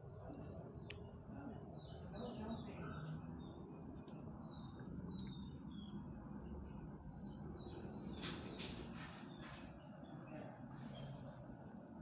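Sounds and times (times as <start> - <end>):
low steady background hum: 0.0 - 12.0
small birds chirping: 0.0 - 12.0.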